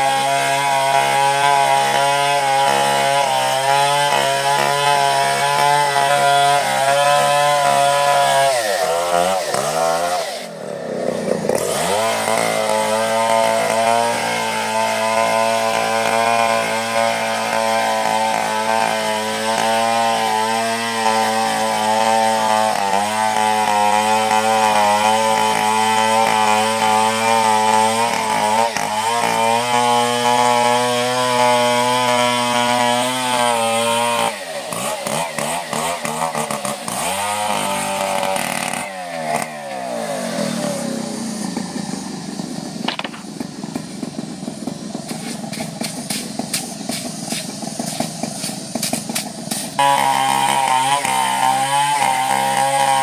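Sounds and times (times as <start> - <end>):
chainsaw sawing log: 0.0 - 53.0.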